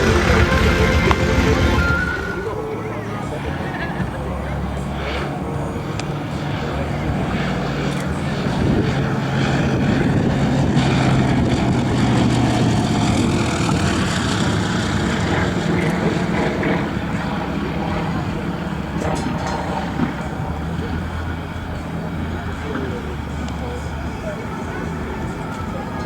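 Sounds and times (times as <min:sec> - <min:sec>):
propeller aircraft engine running: 0:00.0 - 0:26.0.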